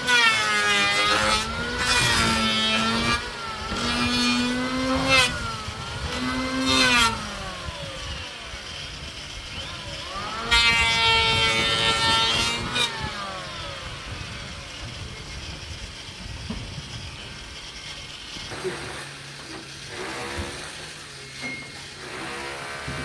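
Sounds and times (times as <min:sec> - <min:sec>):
motor speeding up and winding down: 0:00.0 - 0:23.0
low mechanical background: 0:00.2 - 0:23.0.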